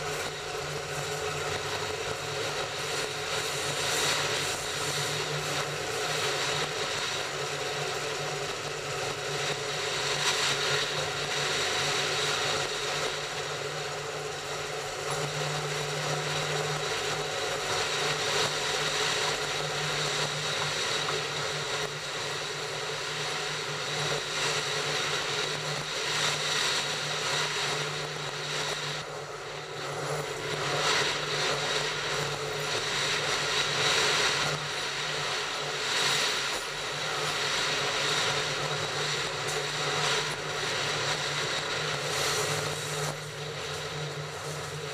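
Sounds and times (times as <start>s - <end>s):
constant low hum: 0.0s - 44.9s
train wheels on rails: 0.0s - 44.9s.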